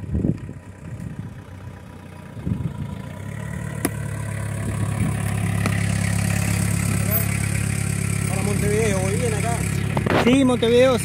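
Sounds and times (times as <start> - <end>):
car engine approaching: 0.0 - 11.0
car engine idling: 0.0 - 11.0.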